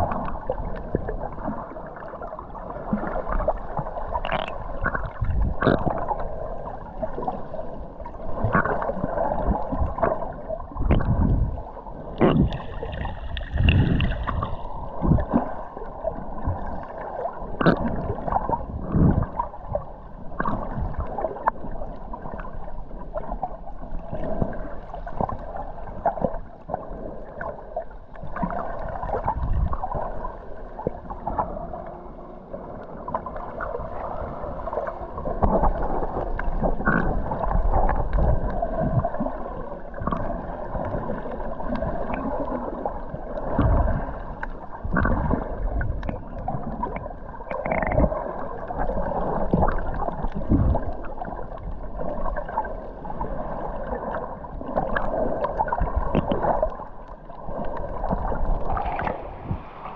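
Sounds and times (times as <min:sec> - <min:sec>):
underwater bubbling: 0:00.0 - 0:59.9
underwater water rushing and gurgling: 0:00.0 - 0:59.9.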